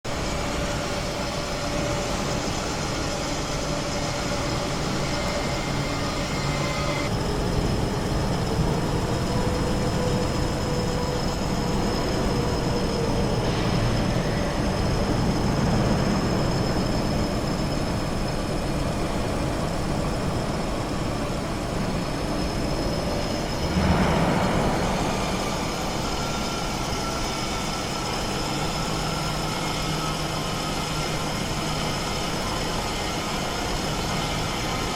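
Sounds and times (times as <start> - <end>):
metal lathe droning and whining: 0.1 - 34.9.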